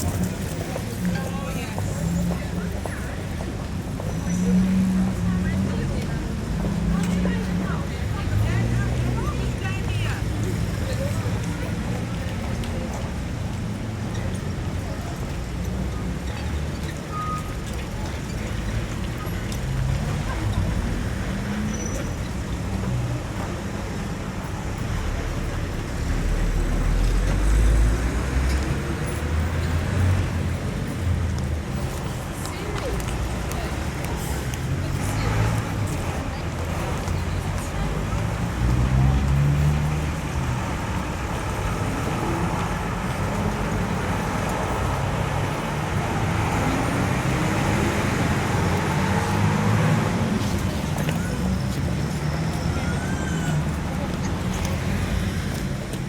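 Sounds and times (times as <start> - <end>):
cars passing: 0.0 - 56.0
engine rumble and road noise: 0.0 - 56.0.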